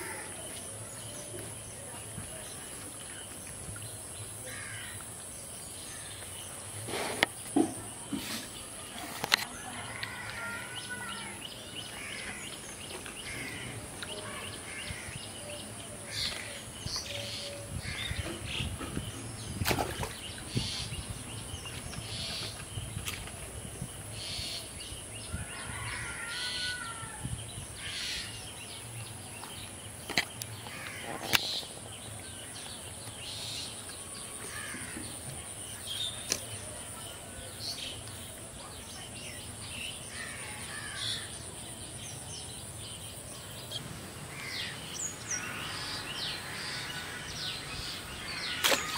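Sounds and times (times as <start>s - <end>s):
birds calling: 3.4s - 48.9s.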